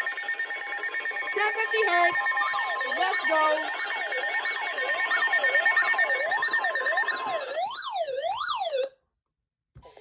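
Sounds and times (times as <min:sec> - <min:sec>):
rising and falling siren wail: 0:00.0 - 0:08.9.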